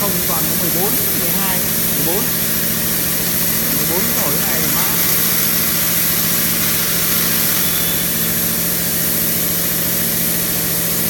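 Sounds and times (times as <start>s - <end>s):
machine humming: 0.0s - 11.0s
plasma torch hissing: 0.0s - 11.0s.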